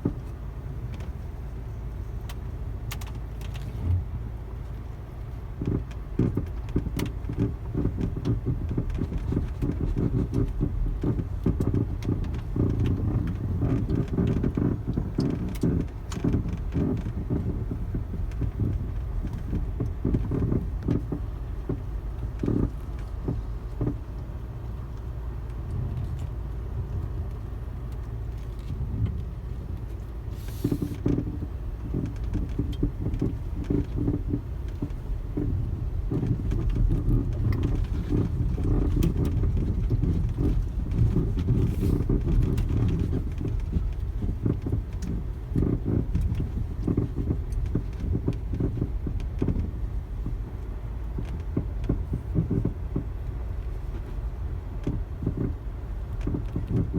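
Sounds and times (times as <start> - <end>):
low road rumble: 0.0 - 56.9
suspension knocks and crunches: 0.0 - 56.9.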